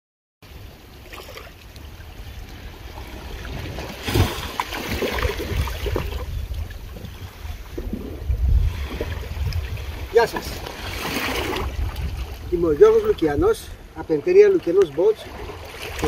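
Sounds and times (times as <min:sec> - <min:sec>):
small waves lapping on sand: 0:00.5 - 0:16.0
wind rumbling on microphone: 0:01.7 - 0:16.0.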